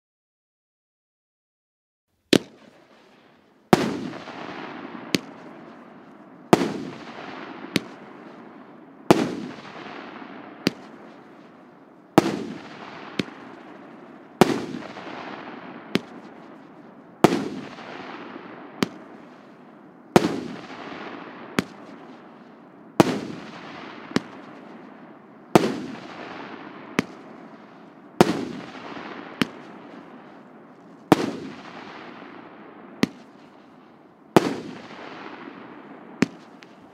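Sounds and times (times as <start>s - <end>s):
fireworks bangs with hiss: 2.3s - 36.9s.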